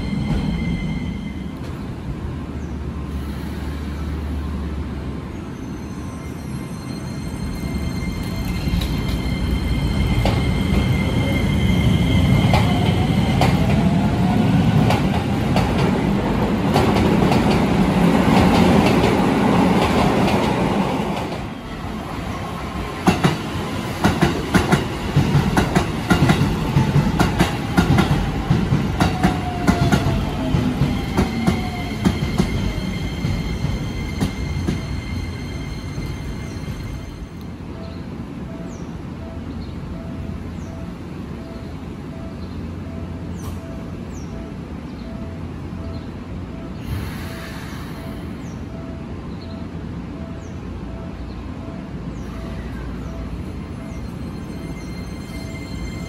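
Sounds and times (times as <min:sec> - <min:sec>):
train wheel and motor rumble: 0:07.4 - 0:56.0.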